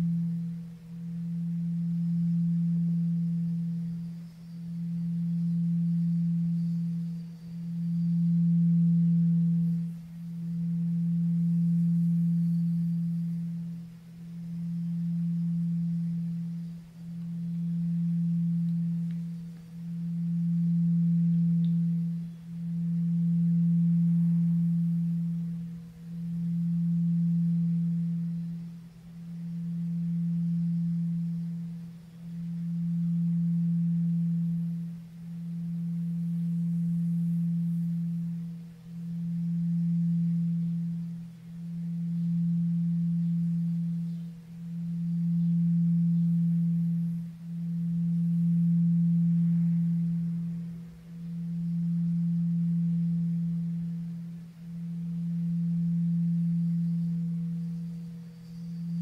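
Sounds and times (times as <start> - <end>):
singing bowl tone: 0.0 - 59.0.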